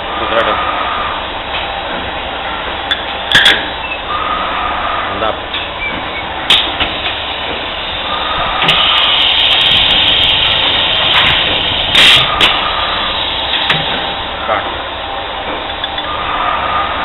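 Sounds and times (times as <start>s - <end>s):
roller forming machine whine: 0.0s - 17.0s.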